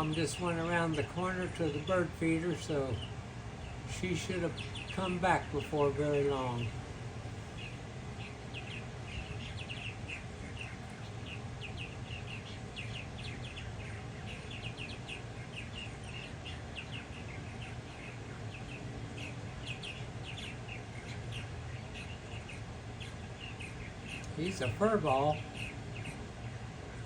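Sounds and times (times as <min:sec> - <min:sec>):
fledgling bird begging chirps: 0:00.0 - 0:27.0
low steady hum: 0:00.0 - 0:27.0.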